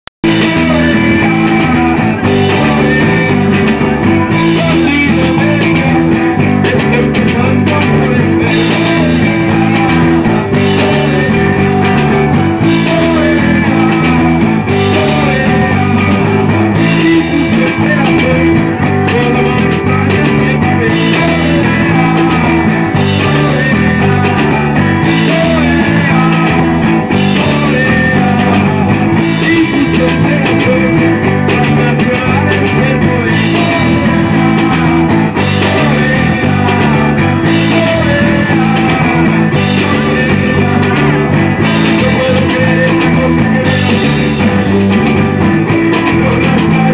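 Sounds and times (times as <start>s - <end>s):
drum kit: 0.2s - 46.9s
strummed electric guitars: 0.2s - 46.9s
walking bass line: 0.2s - 46.9s.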